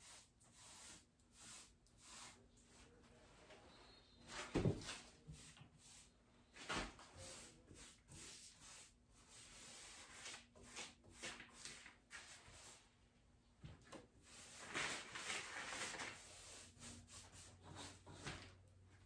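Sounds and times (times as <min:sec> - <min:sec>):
paintbrush rubbing strokes: 0:00.0 - 0:12.9, 0:14.2 - 0:18.4.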